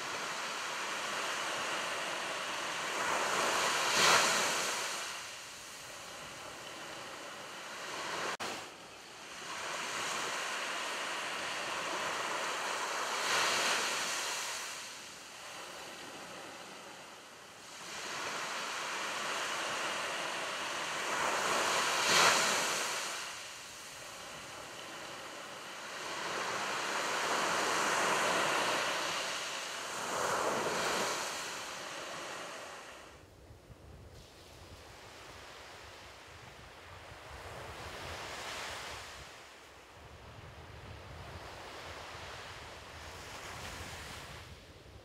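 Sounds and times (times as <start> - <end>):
waves crashing on beach: 0.0 - 33.3, 34.2 - 44.7.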